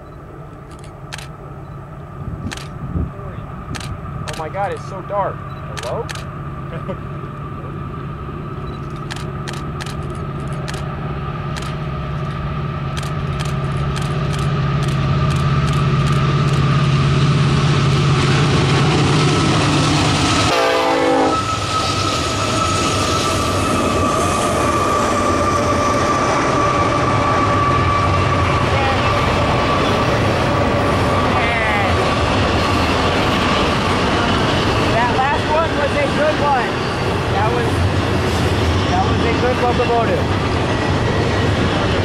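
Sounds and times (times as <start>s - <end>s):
locomotive engines humming: 0.0s - 42.0s.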